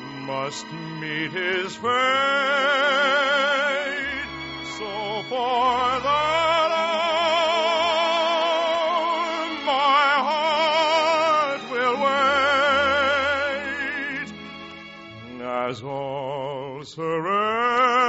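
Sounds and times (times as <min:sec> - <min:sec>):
man singing with vibrato: 0:00.0 - 0:14.5, 0:15.2 - 0:18.0
orchestra: 0:00.0 - 0:18.0.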